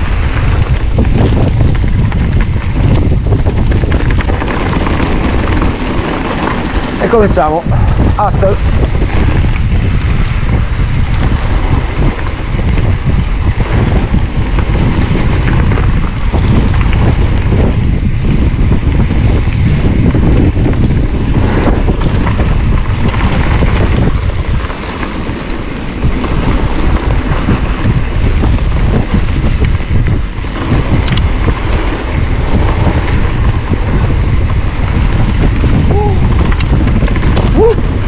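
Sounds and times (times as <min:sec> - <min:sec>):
mountain bike rumbling and rattling: 0:00.0 - 0:38.0
wind buffeting microphone: 0:00.0 - 0:38.0.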